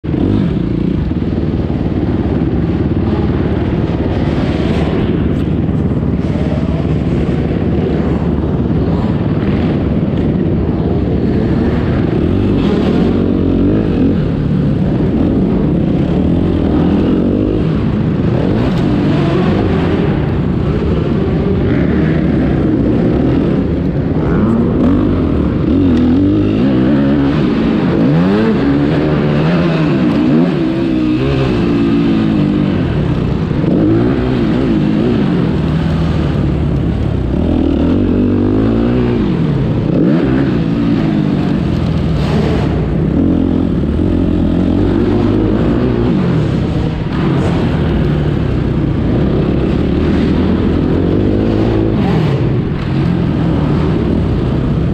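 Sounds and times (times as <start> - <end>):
dirt bike engine revving: 0.1 - 54.9.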